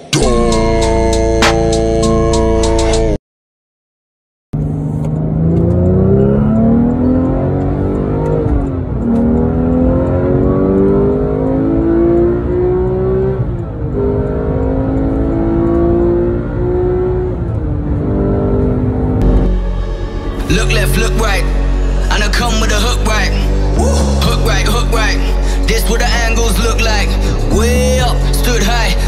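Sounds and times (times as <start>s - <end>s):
car engine accelerating: 4.6s - 29.0s.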